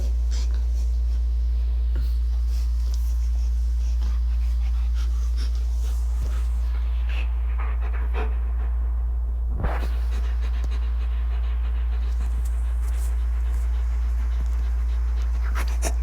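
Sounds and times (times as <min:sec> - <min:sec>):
dog panting: 0:00.0 - 0:16.0
steady low hum: 0:00.0 - 0:16.0.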